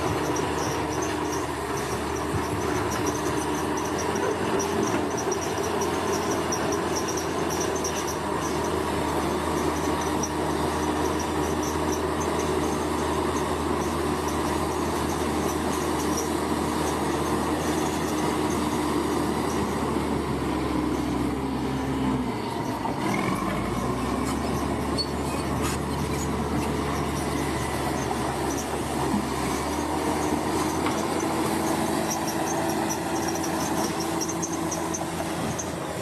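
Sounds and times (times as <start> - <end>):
bulldozer diesel engine: 0.0 - 36.0.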